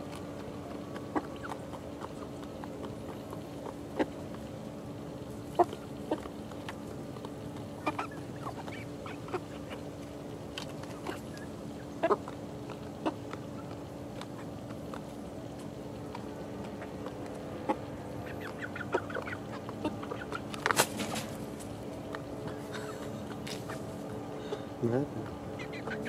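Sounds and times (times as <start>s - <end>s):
chickens clucking softly: 0.0s - 26.0s
steady low hum: 0.0s - 26.0s.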